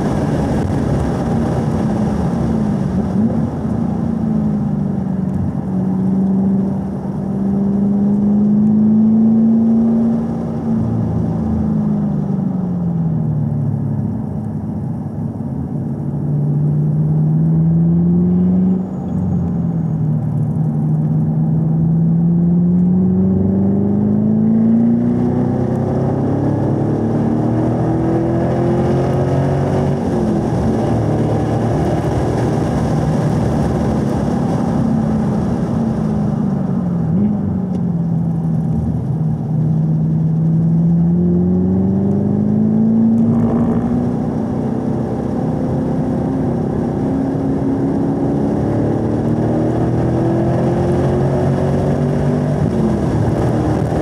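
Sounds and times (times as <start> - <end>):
car engine revving in cabin: 0.0 - 14.6, 15.8 - 54.0.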